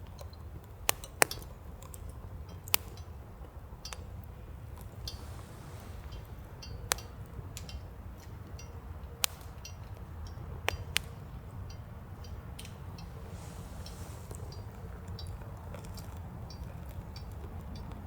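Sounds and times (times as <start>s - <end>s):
firewood crackling and popping: 0.0s - 18.0s
low steady rumble: 1.8s - 18.0s.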